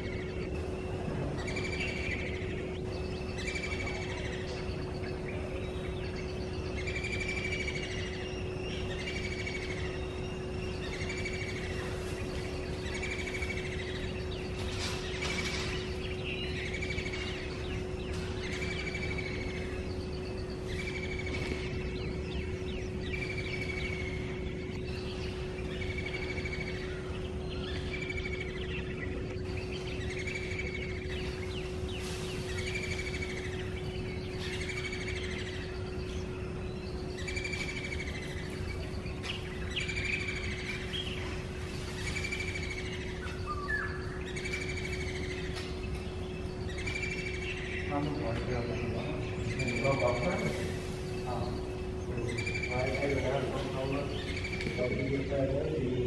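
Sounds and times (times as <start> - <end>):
bird calling: 0.0 - 56.0
steady low hum: 0.0 - 56.0.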